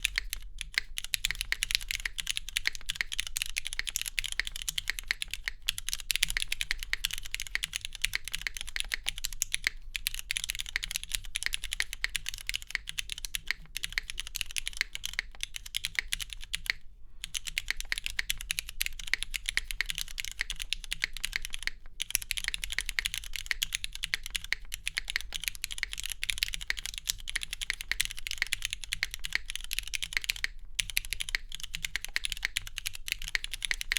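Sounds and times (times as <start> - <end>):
mechanical keyboard typing: 0.0 - 33.9.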